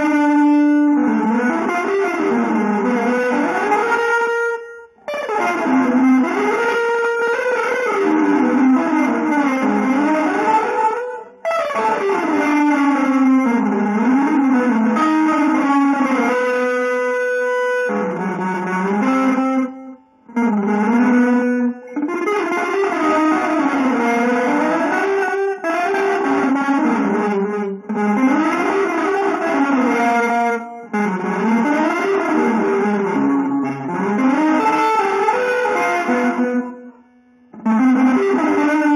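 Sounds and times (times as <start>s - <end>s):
guitar playing fast melodic runs: 0.0s - 38.9s.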